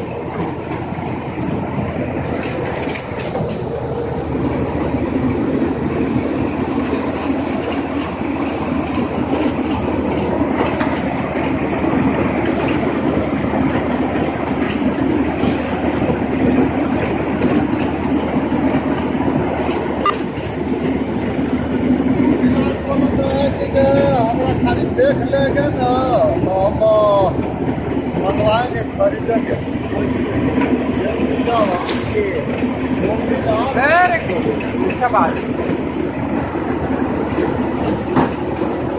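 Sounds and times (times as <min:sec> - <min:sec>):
diesel tractor engine: 0:00.0 - 0:38.9
rice huller rattling: 0:00.0 - 0:38.9.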